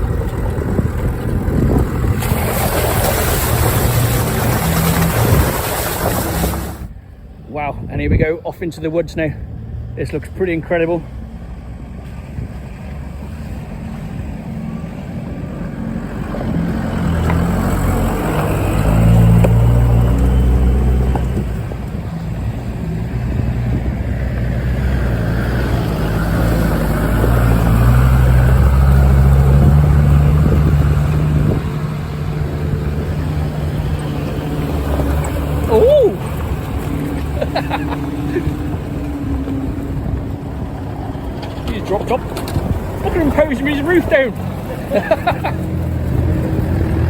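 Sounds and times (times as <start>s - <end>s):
vehicle engine on rough track: 0.0s - 47.0s.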